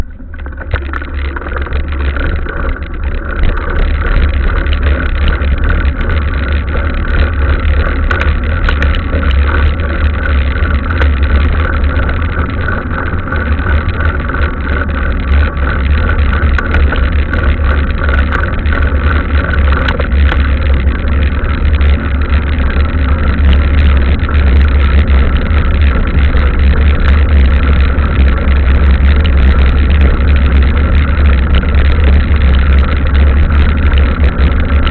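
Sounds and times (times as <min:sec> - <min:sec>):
wind and tyre rumble: 0:00.0 - 0:34.9.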